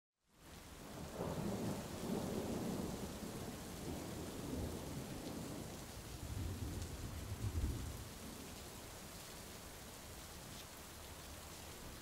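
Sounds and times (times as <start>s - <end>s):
steady rain falling: 0.2s - 12.0s.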